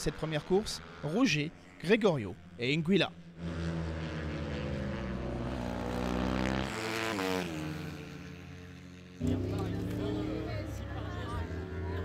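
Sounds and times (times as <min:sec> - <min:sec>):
racing motorcycle engine at high revs: 0:00.0 - 0:12.0.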